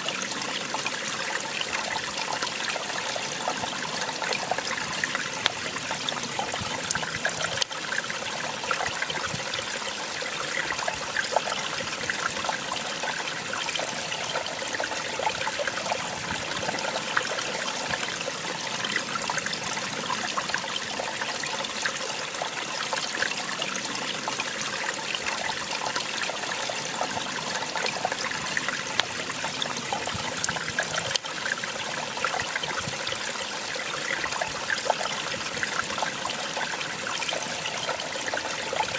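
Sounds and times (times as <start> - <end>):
water splashing and trickling: 0.0 - 38.9.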